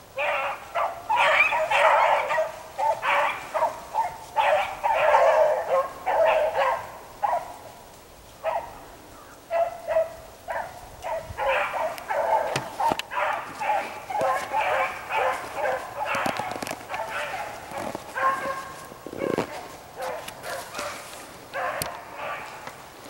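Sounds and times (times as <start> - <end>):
beagles baying and barking: 0.0 - 23.0.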